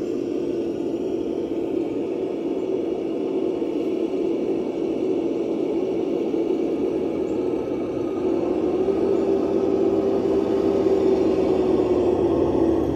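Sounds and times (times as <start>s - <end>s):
steady mechanical hum: 0.0s - 12.9s.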